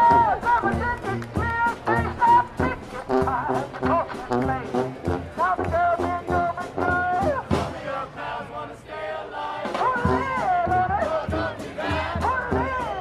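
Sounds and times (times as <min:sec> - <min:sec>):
steady drum beat: 0:00.0 - 0:08.0, 0:09.6 - 0:13.0
marching band horns: 0:00.0 - 0:13.0.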